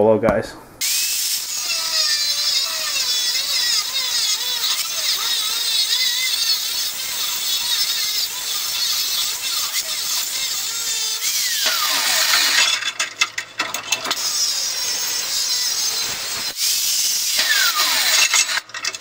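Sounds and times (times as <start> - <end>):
angle grinder cutting steel: 0.8 - 19.0.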